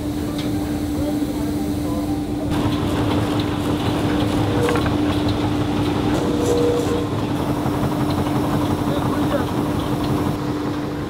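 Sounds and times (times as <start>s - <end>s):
sanding machine humming: 0.0s - 11.0s.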